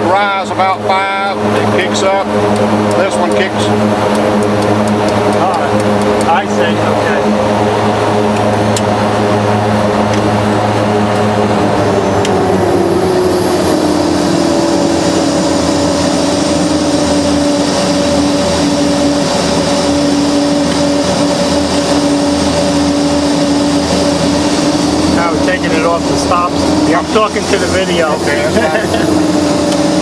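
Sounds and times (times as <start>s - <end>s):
turboprop engine running: 0.0s - 30.0s.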